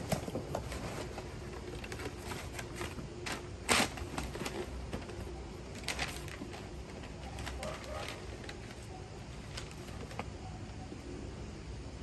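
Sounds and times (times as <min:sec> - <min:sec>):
box rustling and scraping: 0:00.0 - 0:10.2.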